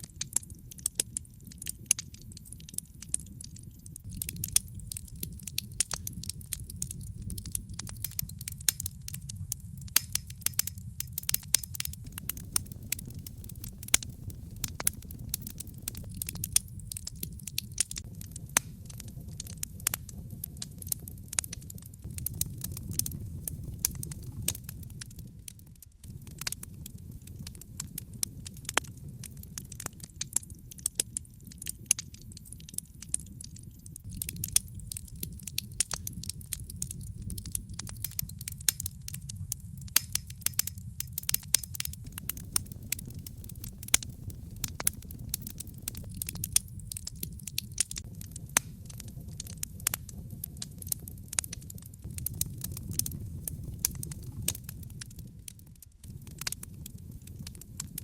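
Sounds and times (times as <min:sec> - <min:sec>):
logs crackling with pops: 0:00.0 - 0:58.0
low rumble of flames: 0:00.0 - 0:58.0.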